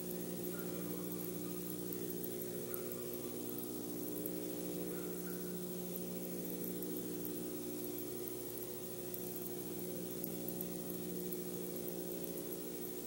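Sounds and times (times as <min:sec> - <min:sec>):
background hiss: 0:00.0 - 0:13.0
electrical hum: 0:00.0 - 0:13.0.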